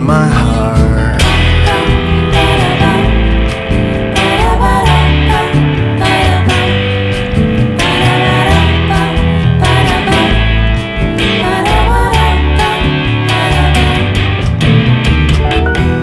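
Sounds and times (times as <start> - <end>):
bass line: 0.0 - 16.0
instrumental guitar music: 0.0 - 16.0.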